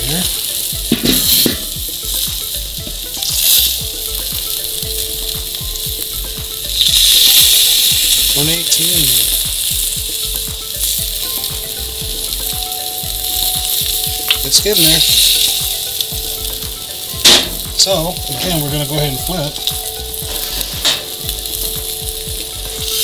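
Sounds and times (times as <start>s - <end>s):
steak sizzling on a grill: 0.0s - 23.0s.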